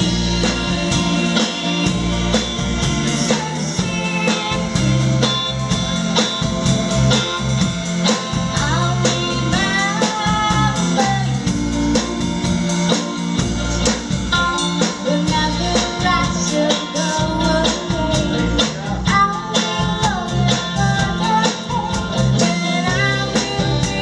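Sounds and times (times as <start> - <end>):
person singing: 0.0 - 5.7, 8.4 - 13.1, 14.7 - 24.0
drums keeping a steady beat: 0.0 - 24.0
electric guitar: 0.0 - 24.0.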